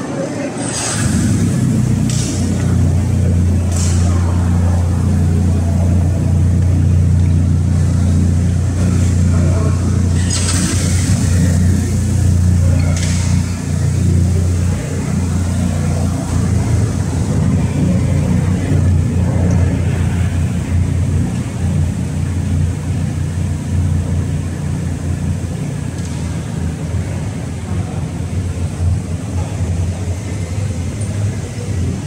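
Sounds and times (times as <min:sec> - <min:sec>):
faint crowd chatter: 0:00.0 - 0:32.0
vehicle engines idling: 0:00.0 - 0:32.0.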